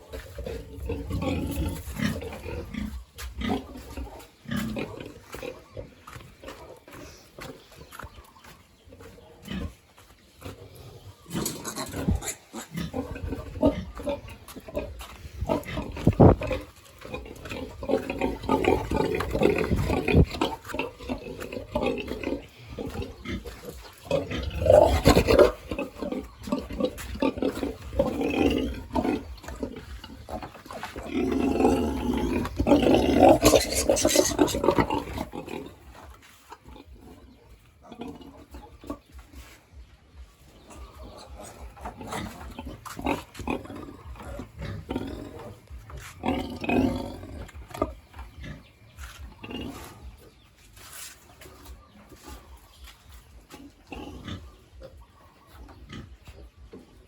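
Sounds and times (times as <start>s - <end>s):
pigs grunting and squealing: 0.0s - 50.5s, 51.2s - 57.0s.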